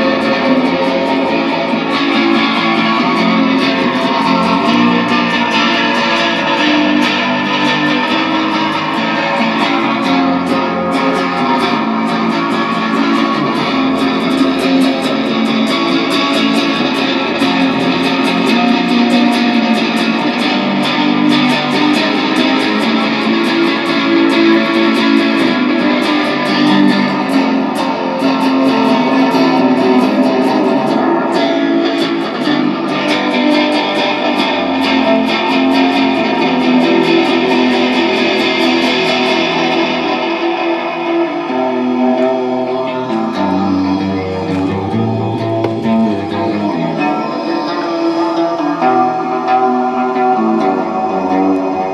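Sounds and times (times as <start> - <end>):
bass guitar: 0.0 - 51.9
electric guitar strummed and picked: 0.0 - 51.9.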